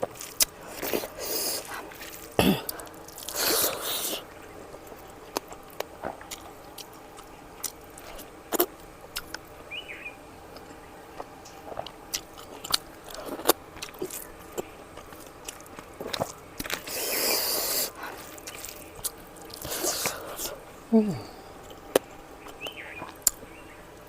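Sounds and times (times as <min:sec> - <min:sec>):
chewing and biting: 0:00.0 - 0:09.6, 0:10.5 - 0:20.7, 0:21.6 - 0:24.0.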